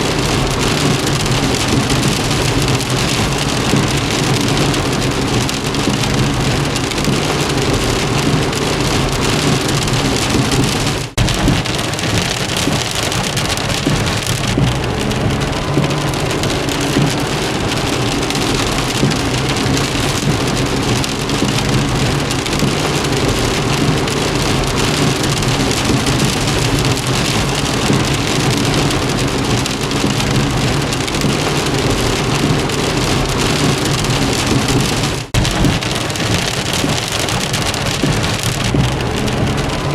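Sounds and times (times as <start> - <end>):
low steady rumble: 0.0 - 12.9, 13.5 - 37.0, 38.0 - 39.9
heavy rain on a car: 0.0 - 39.9.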